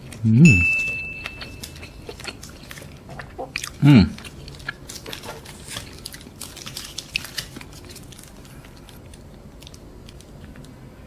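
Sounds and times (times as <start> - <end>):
chewing crispy fried chicken: 0.0 - 10.8.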